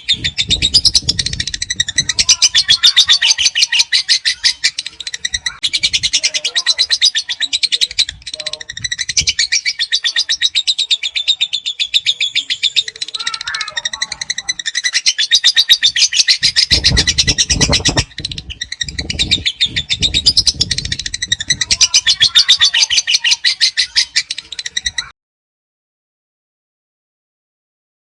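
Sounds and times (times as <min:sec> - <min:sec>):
lovebird chattering trill: 0:00.0 - 0:25.1.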